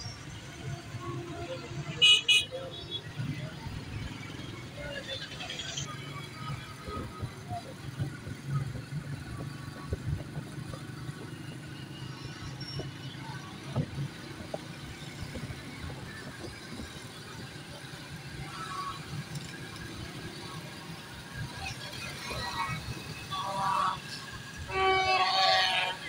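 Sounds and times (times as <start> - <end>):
cars and motorbikes passing: 0.0 - 26.0
engine and road rumble: 0.0 - 26.0.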